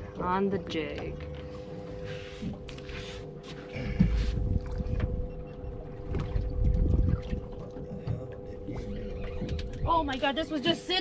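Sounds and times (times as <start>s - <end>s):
boat engine hum: 0.0s - 11.0s
low uneven rumble: 0.0s - 11.0s.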